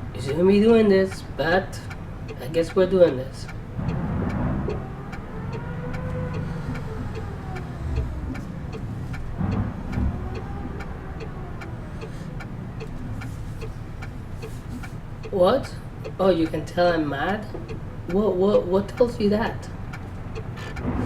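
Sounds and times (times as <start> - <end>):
car engine revving: 0.0 - 18.2, 19.7 - 21.0
steady light ticking: 0.1 - 21.0.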